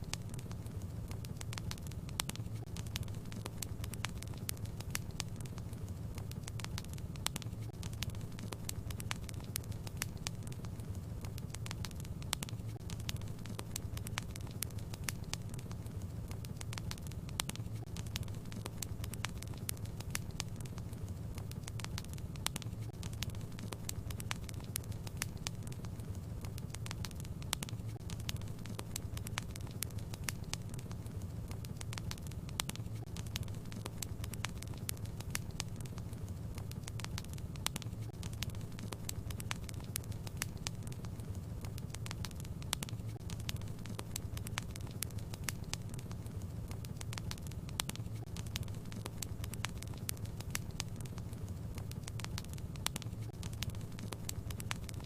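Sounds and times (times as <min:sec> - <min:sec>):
steady low rumble: 0:00.0 - 0:55.0
wood fire crackling and popping: 0:00.0 - 0:55.0.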